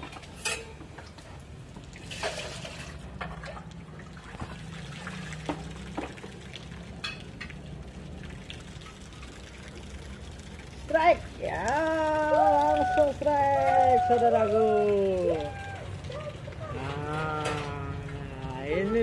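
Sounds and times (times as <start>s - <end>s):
water pouring into river: 0.2s - 18.4s.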